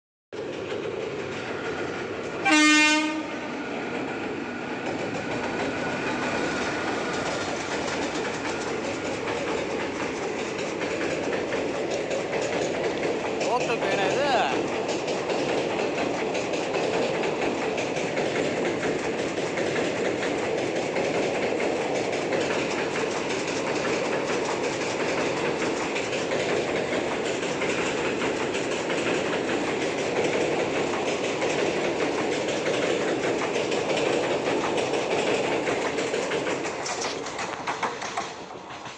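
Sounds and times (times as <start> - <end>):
train wheels clickety-clack: 0.4 - 38.9.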